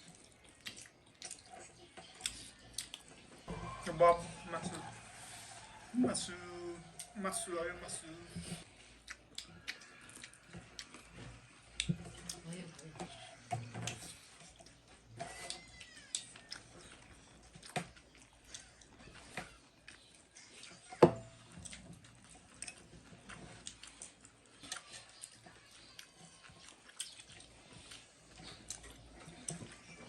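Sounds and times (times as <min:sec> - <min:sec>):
people chewing food: 0:00.0 - 0:30.0.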